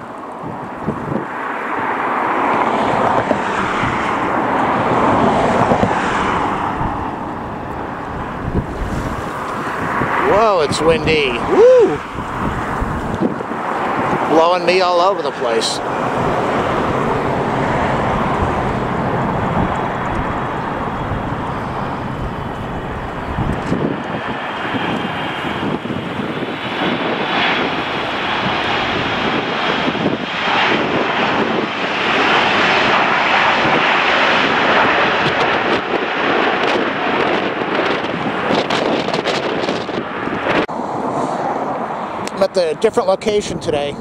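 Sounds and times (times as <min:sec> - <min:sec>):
jet airliner engines: 0:00.0 - 0:44.0
wind buffeting microphone: 0:00.0 - 0:44.0.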